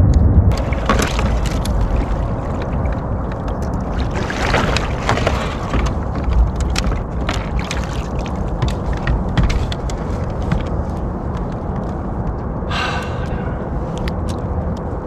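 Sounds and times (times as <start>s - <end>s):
gear clicks and knocks: 0.0s - 12.6s, 13.9s - 15.0s
wind on microphone: 0.0s - 15.0s
water against kayak hull: 0.5s - 12.8s.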